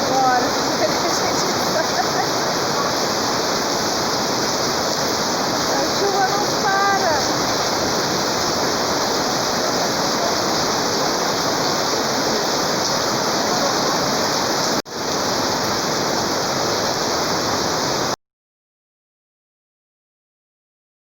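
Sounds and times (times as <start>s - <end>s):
heavy rain falling: 0.0s - 18.2s.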